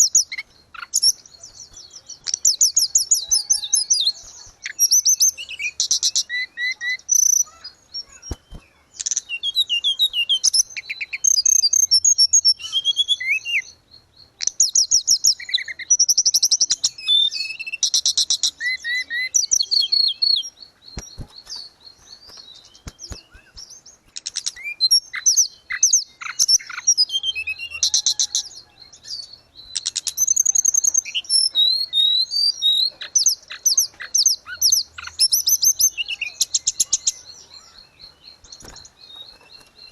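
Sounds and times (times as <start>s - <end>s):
flycatcher singing twittering trills: 0.0s - 39.9s.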